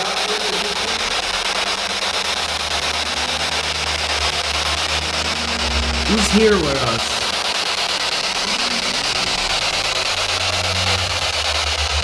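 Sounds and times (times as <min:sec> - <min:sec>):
radio static hiss: 0:00.0 - 0:12.0
low hum: 0:00.4 - 0:12.0.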